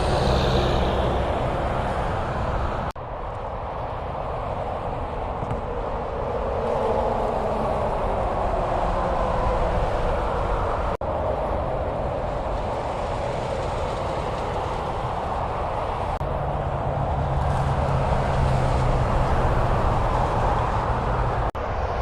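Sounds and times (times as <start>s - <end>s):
highway traffic noise: 0.0s - 22.0s.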